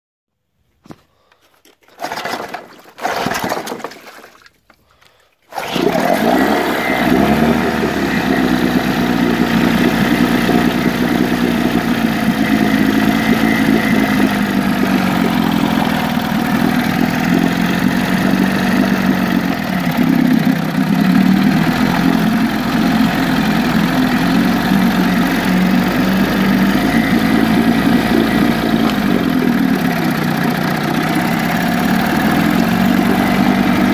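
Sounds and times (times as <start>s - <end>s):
outboard motor starting and idling: 1.8s - 33.9s.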